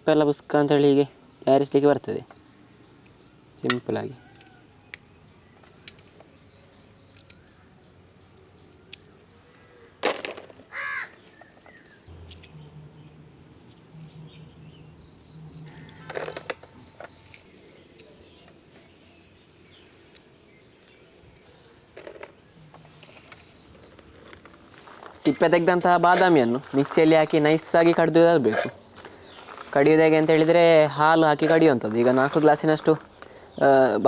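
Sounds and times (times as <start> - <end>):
birds calling: 1.2 - 34.0.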